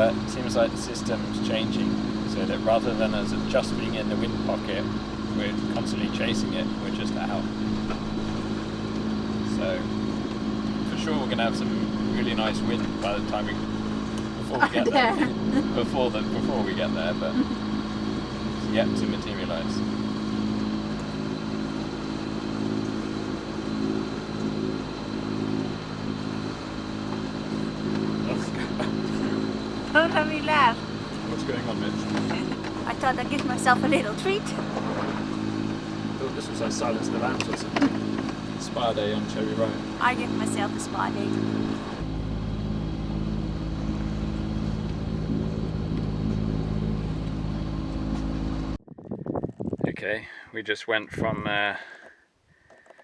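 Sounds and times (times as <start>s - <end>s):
boat engine running: 0.0s - 50.2s.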